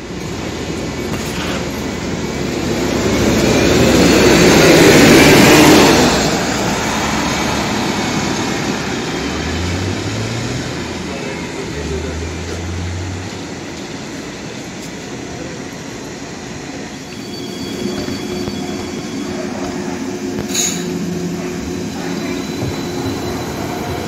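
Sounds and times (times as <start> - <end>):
electric trolleybus driving off: 0.0 - 24.0.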